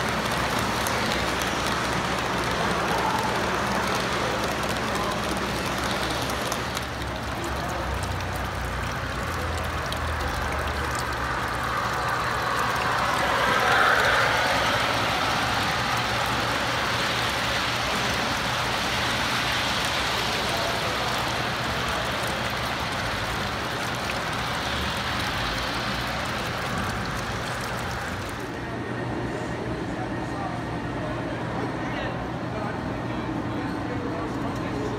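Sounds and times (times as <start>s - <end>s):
model train wheels rumbling: 0.0s - 28.8s
busy hall background noise: 0.0s - 34.9s.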